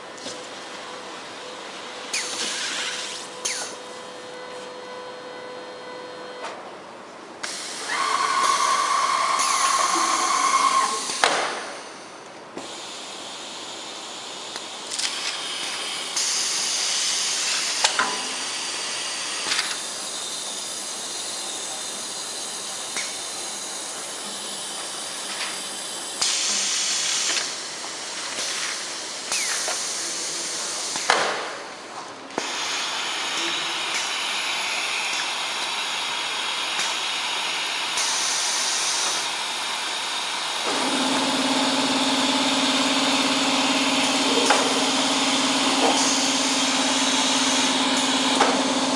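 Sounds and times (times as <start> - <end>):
machine air hiss and whir: 0.0 - 5.6, 7.3 - 48.9.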